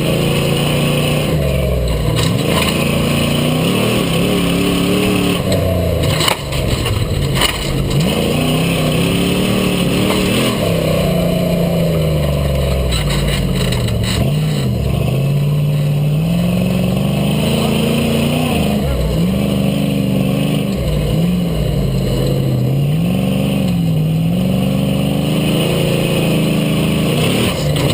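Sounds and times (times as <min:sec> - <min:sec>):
buggy engine revving: 0:00.0 - 0:27.9.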